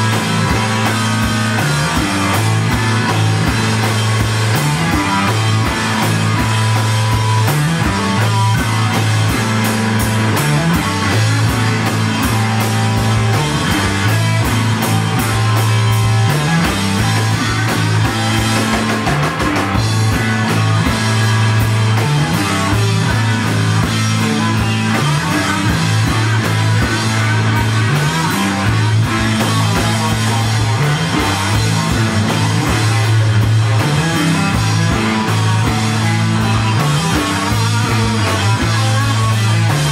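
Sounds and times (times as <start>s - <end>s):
bass repeating a riff: 0.0s - 39.9s
distorted electric guitar: 0.0s - 39.9s
drum kit with cymbal hits: 0.0s - 39.9s.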